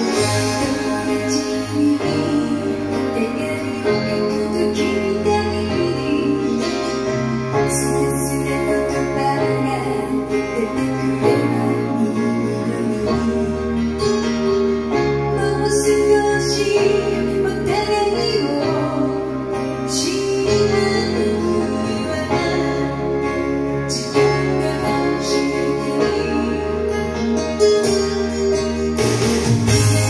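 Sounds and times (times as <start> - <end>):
woman singing: 0.0 - 14.3, 15.2 - 27.4, 29.7 - 30.0
pop-rock band over loudspeakers: 0.0 - 30.0.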